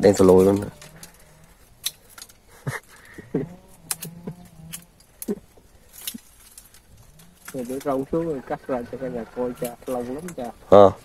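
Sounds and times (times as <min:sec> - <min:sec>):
bamboo stems cracking: 0:00.0 - 0:08.2, 0:09.5 - 0:10.6.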